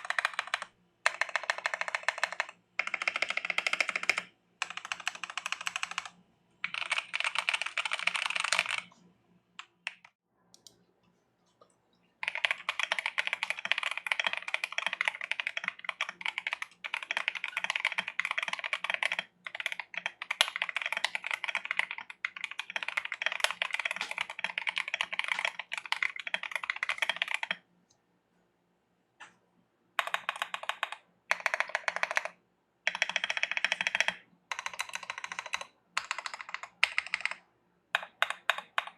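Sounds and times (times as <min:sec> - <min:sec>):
typing on mechanical keyboard: 0:00.0 - 0:09.0, 0:09.6 - 0:10.2, 0:12.2 - 0:27.6, 0:30.0 - 0:38.9.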